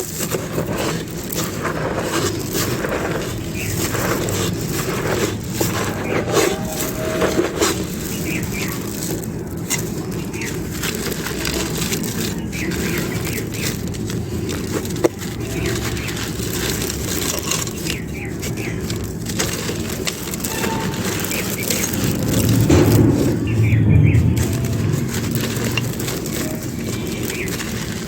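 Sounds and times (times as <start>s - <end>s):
dry clay crunching and crumbling: 0.0s - 28.0s
low background rumble: 0.0s - 28.0s.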